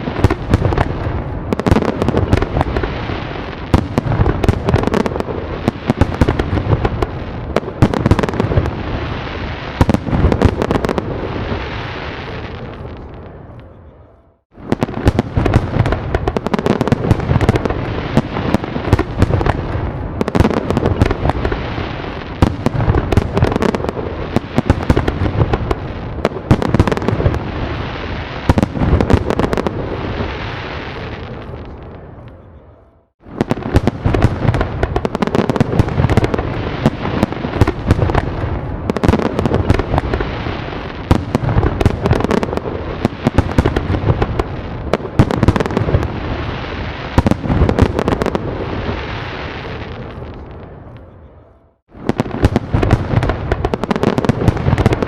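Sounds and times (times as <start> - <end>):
fireworks crackling pops: 0.0 - 13.7, 14.4 - 32.4, 33.2 - 51.1, 51.8 - 55.0
fireworks booming bursts: 0.0 - 55.0.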